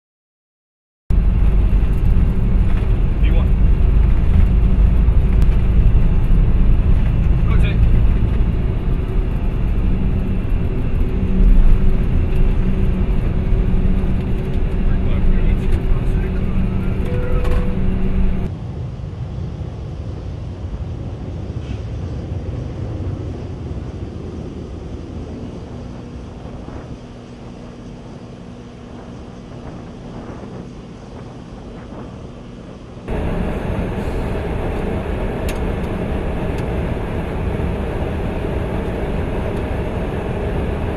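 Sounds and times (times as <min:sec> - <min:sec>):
jet engines and airflow rumble: 0:01.1 - 0:40.9.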